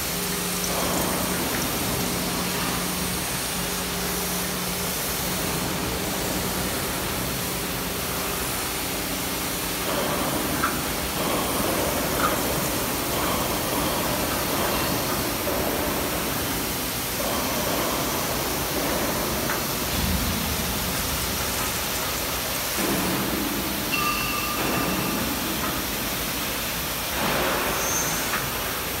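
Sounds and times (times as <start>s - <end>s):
coolant spray hissing: 0.0s - 24.0s, 24.9s - 29.0s.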